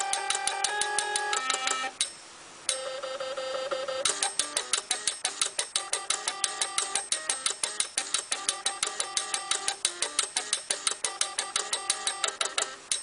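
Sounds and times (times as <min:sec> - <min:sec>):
fast even clicking beat: 0:00.0 - 0:02.2, 0:04.0 - 0:13.0.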